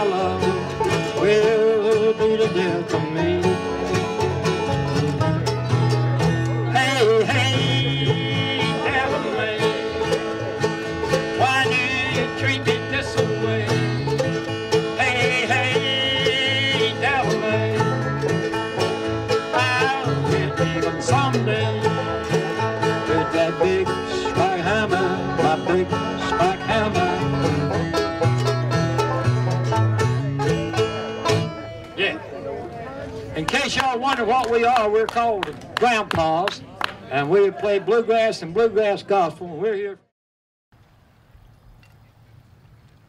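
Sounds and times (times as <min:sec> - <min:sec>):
bluegrass string band playing: 0:00.0 - 0:39.5.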